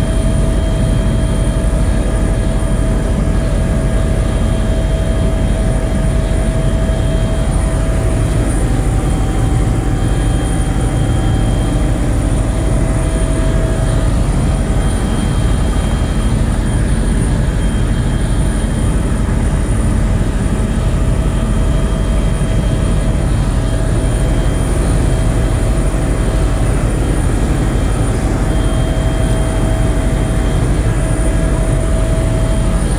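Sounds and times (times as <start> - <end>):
small plane engine and propeller: 0.0 - 32.9.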